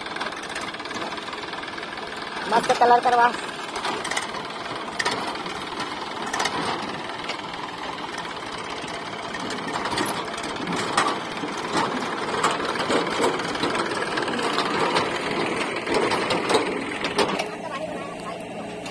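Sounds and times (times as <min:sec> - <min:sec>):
diesel tractor engine clattering: 0:00.0 - 0:18.9.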